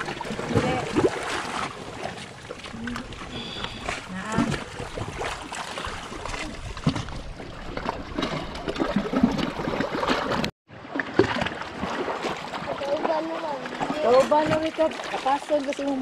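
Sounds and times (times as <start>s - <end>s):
water splashing against rocks: 0.0s - 16.0s.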